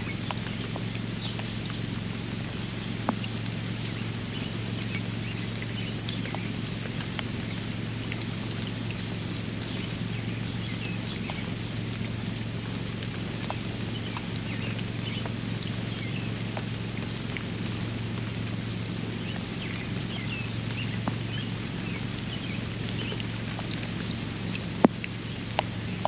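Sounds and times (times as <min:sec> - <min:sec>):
small birds chirping: 0:00.0 - 0:12.5, 0:13.3 - 0:26.0
sharp drips: 0:00.0 - 0:26.0
steady low hum: 0:00.0 - 0:26.0
steady rain: 0:00.0 - 0:26.0.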